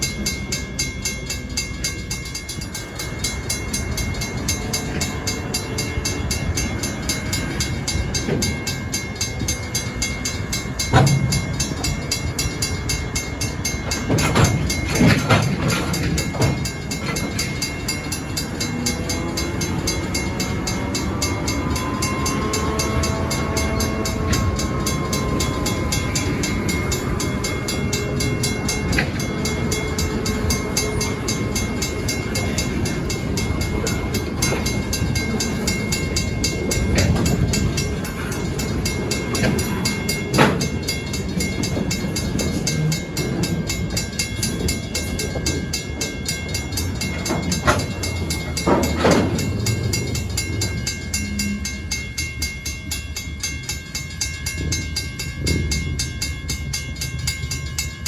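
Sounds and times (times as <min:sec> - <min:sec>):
freight train rumbling: 0:00.0 - 0:58.0
sharp metallic clanks: 0:07.0 - 0:12.8, 0:13.5 - 0:58.0.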